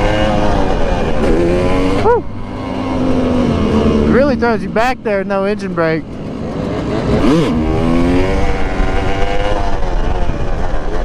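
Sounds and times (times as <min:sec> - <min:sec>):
two-stroke dirt bike revving: 0:00.0 - 0:11.0.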